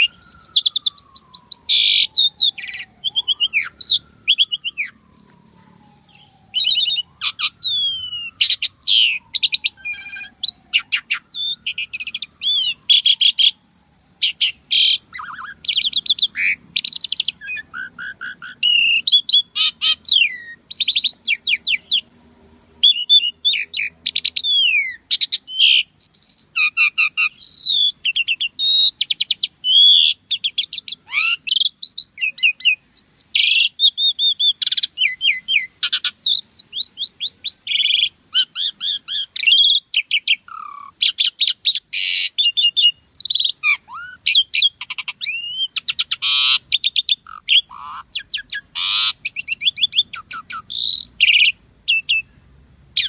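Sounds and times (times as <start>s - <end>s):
starling singing: 0.0s - 52.4s.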